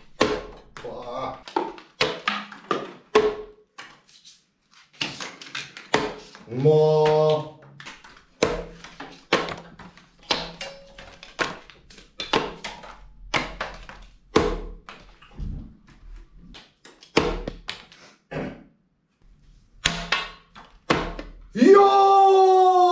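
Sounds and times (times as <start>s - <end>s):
playing cards slapping a table: 0.2s - 18.0s, 19.8s - 21.4s.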